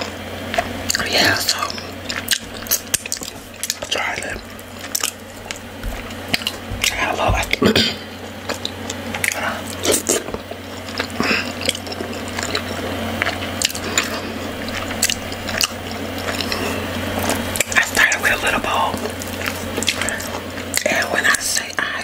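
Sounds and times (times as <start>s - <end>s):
steady low hum: 0.0s - 22.0s
wet squishy chewing: 0.0s - 22.0s.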